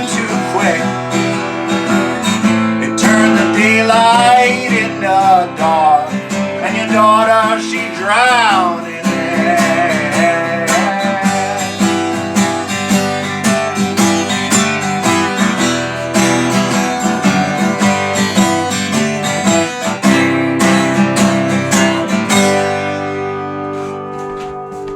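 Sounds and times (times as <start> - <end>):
acoustic guitar strumming: 0.0 - 24.9.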